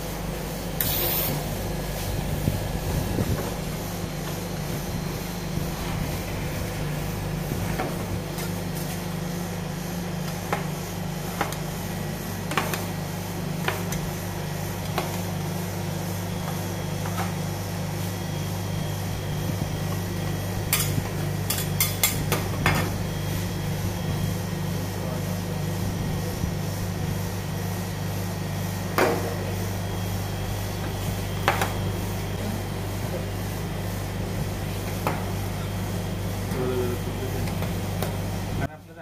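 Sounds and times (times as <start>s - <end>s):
pulsing machine hum: 0.0s - 38.7s.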